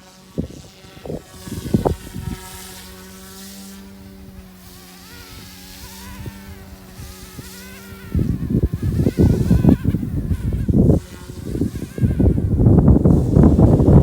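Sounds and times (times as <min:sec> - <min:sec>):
rc helicopter motor and rotor hum: 0:00.0 - 0:14.0
wind buffeting microphone: 0:00.3 - 0:14.0.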